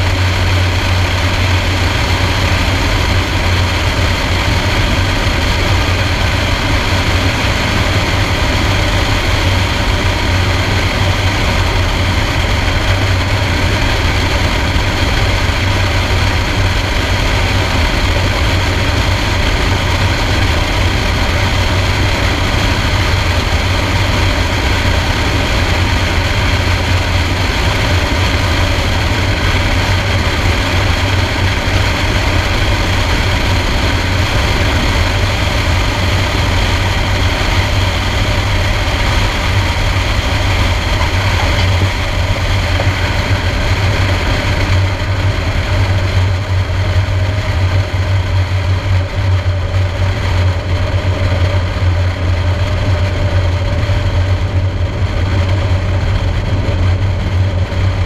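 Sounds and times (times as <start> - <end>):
airflow rush: 0.0 - 58.0
propeller plane engine droning: 0.0 - 58.0.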